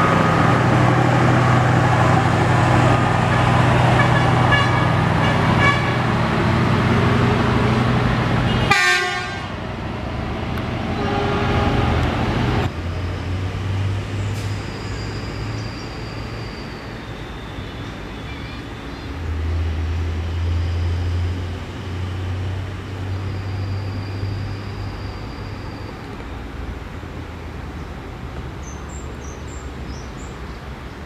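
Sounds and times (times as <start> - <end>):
diesel engine hum: 0.0 - 31.0
train wheels rumbling on rail: 0.0 - 31.0.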